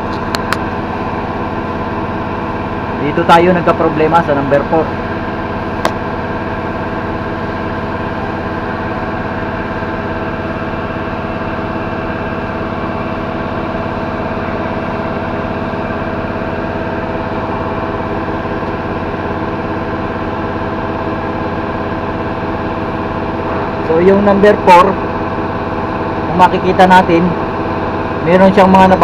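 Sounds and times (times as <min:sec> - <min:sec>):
machine droning: 0:00.0 - 0:29.0.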